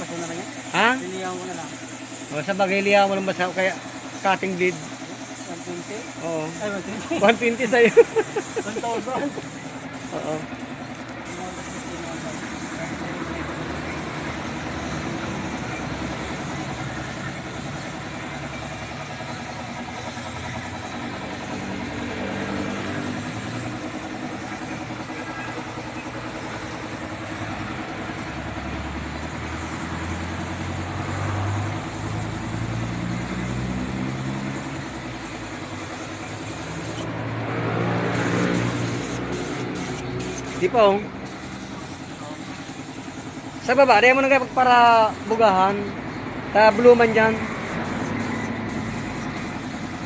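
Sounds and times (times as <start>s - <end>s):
spray gun hissing: 0.0s - 45.8s, 46.6s - 50.0s
engine running: 0.0s - 50.0s.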